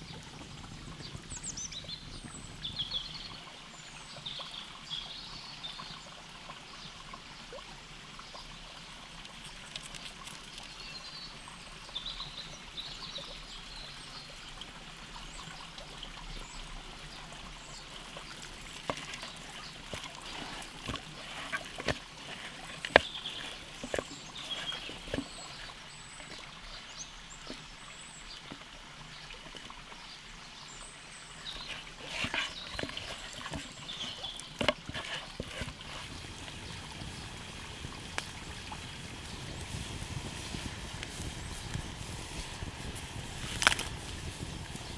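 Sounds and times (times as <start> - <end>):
stream trickling: 0.0 - 44.9.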